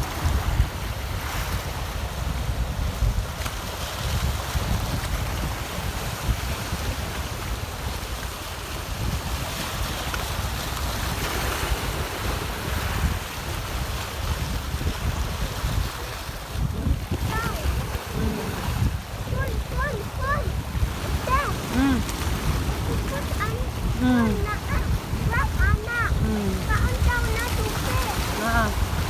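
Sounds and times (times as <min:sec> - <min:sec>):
rough sea surf washing: 0:00.0 - 0:29.0
wind buffeting microphone: 0:00.0 - 0:29.0.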